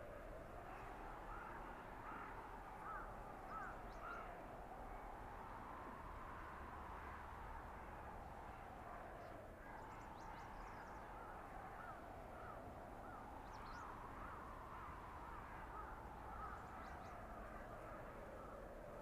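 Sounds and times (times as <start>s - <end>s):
blizzard wind whistling: 0.0s - 19.0s.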